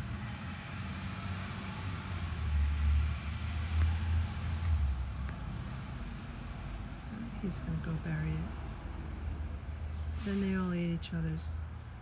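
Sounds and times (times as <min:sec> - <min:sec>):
outdoor background noise: 0:00.0 - 0:12.0
vehicle engine and tyre rumble: 0:00.0 - 0:12.0.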